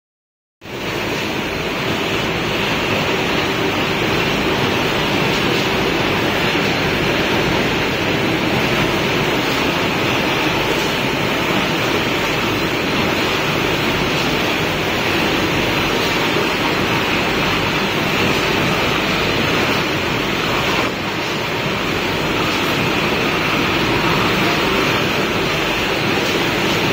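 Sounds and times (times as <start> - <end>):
wire mesh machine running: 0.7 - 26.9.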